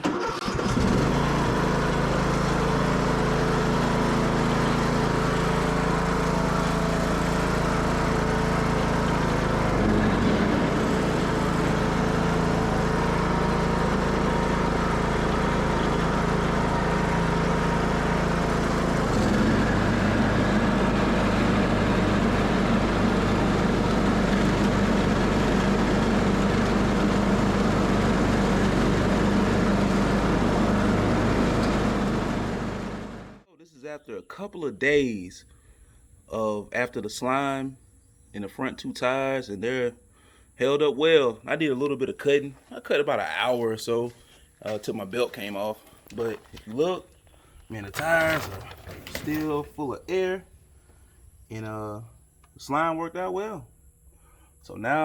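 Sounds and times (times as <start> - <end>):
garden tractor engine running: 0.0 - 33.4, 41.4 - 53.2.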